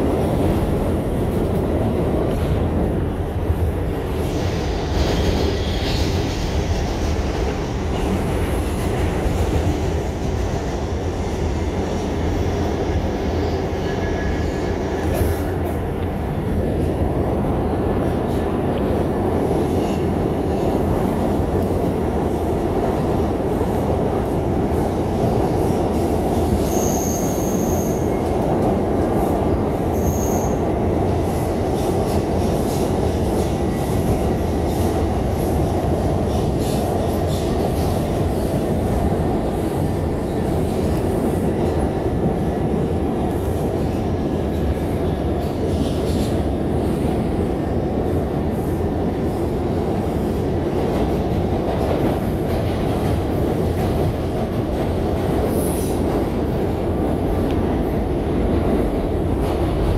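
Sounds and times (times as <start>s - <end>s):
subway train running: 0.0s - 59.9s.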